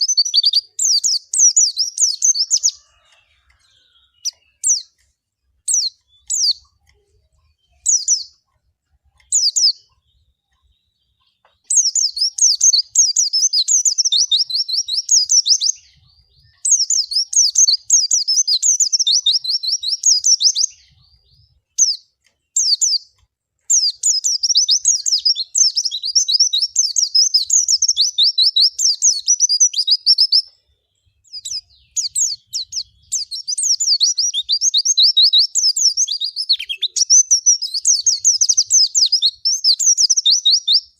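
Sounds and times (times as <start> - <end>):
bird twittering high-pitched: 0.0 - 8.6, 9.2 - 40.9.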